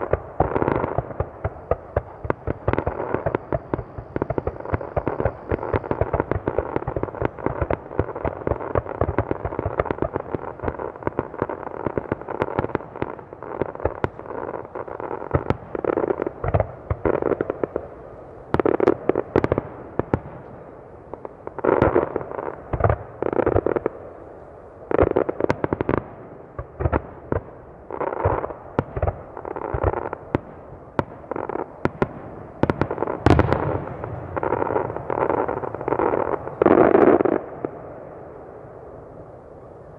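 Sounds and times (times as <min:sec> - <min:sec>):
fireworks bursting: 0:00.0 - 0:24.0, 0:24.8 - 0:38.0.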